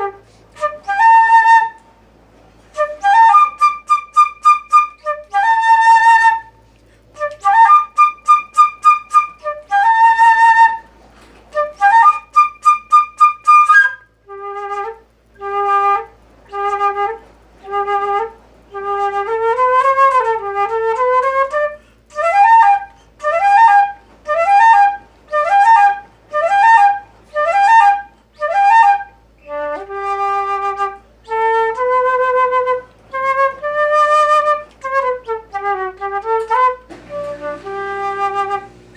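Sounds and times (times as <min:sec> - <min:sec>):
solo flute melody: 0:00.0 - 0:02.0, 0:02.6 - 0:38.9.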